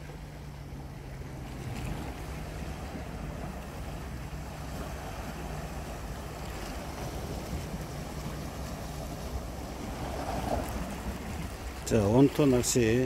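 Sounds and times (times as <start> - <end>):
waves washing against rocks: 1.1 - 13.0
wind on microphone: 1.2 - 11.9.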